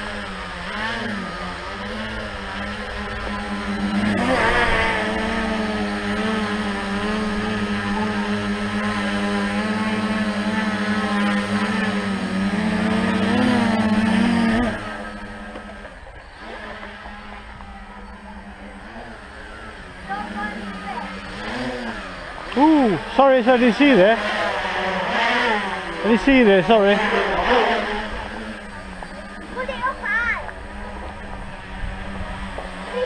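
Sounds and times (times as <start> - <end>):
drone motors buzzing: 0.0 - 33.0.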